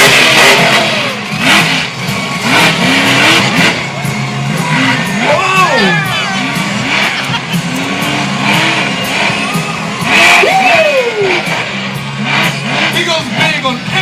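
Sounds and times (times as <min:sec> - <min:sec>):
monster truck engine revving: 0:00.0 - 0:14.0
music: 0:00.0 - 0:14.0.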